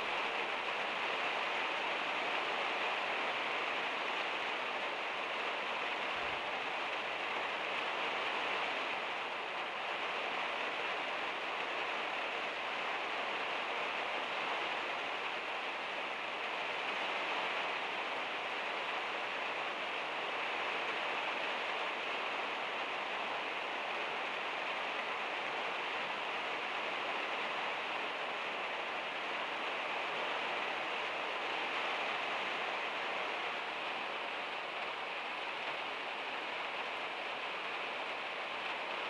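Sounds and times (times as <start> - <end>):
heavy rain on a metal roof: 0.0 - 39.0.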